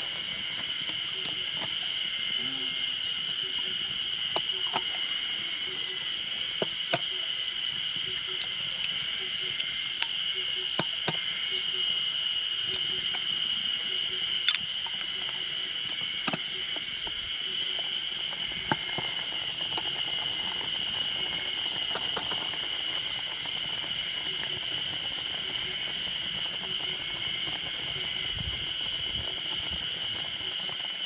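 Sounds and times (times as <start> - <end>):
high drone of insects: 0.0 - 31.0
wood crackling in a stove: 0.0 - 31.0.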